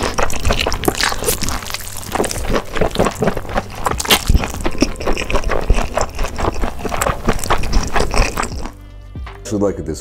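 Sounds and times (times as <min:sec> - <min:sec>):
woman slurping and chewing noodles: 0:00.0 - 0:08.8.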